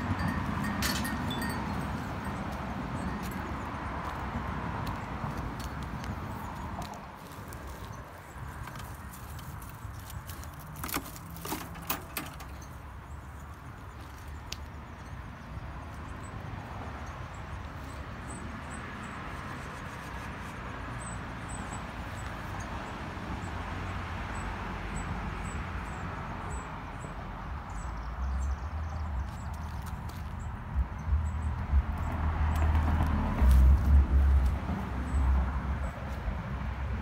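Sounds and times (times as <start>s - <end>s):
distant road traffic: 0.0s - 37.0s.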